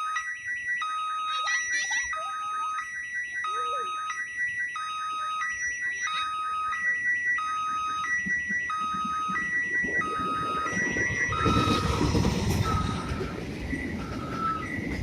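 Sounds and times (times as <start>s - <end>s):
level crossing two-tone alarm chime: 0.0s - 14.9s.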